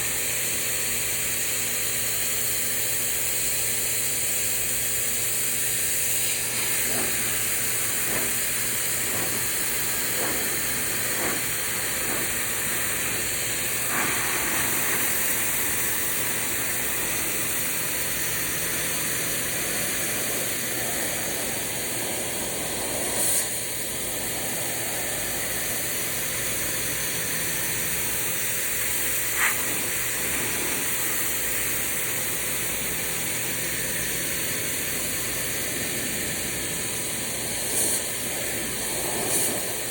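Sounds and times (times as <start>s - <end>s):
pressure washer water jet hiss: 0.0s - 39.9s
pump humming: 6.2s - 39.9s.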